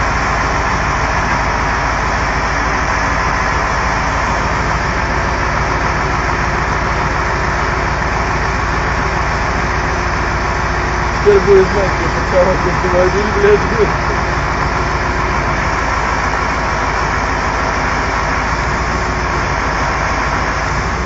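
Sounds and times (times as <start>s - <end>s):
truck engine running under load: 0.0s - 21.0s.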